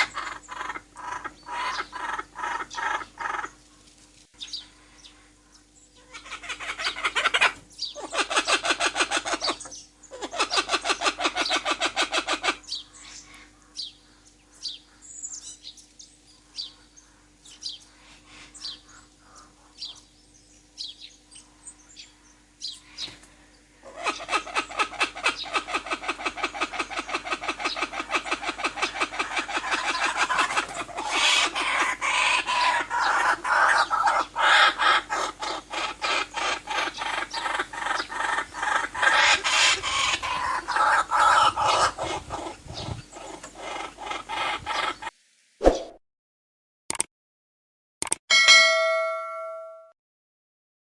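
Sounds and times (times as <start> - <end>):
birds chirping and chattering: 0.0 - 45.1.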